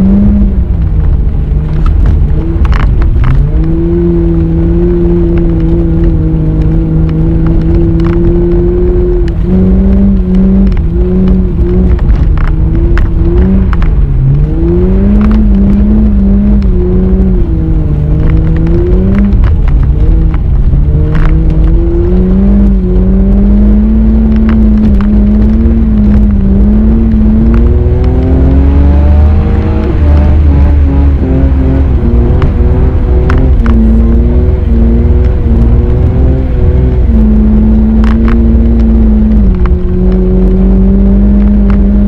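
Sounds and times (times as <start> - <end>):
car engine revving: 0.0 - 42.0
sharp clicks and crackles: 0.0 - 42.0.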